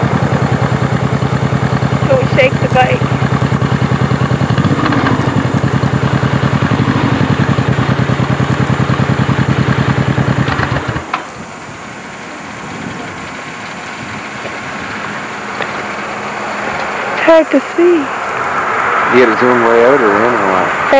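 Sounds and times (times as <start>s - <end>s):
steady outdoor hiss: 0.0s - 20.9s
vehicle engine idling: 0.0s - 20.9s.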